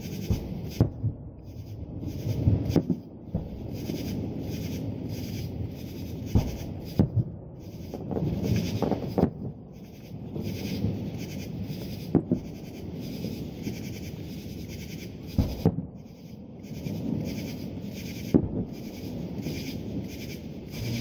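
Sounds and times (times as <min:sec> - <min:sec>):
fireworks booming: 0:00.0 - 0:21.0
steady background noise: 0:00.0 - 0:21.0.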